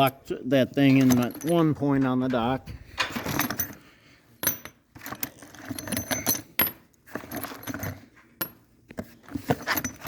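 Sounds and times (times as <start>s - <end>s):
metal hardware clinking: 0.0s - 8.7s.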